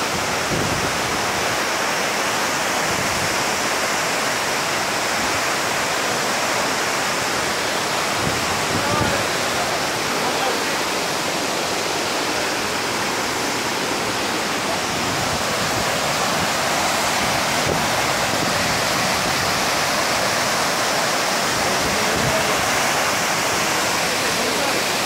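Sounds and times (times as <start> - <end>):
rapids running over rocks: 0.0 - 25.0
waterfall crashing into pool: 0.0 - 25.0.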